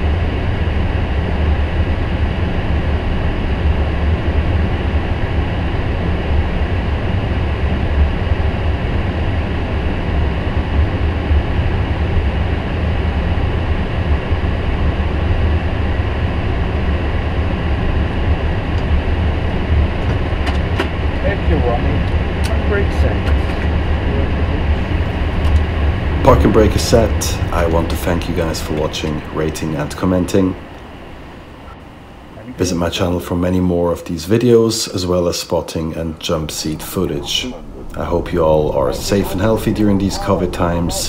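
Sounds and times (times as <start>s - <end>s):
air conditioning hum: 0.0s - 41.0s
idling jet engines rumble: 0.0s - 41.0s.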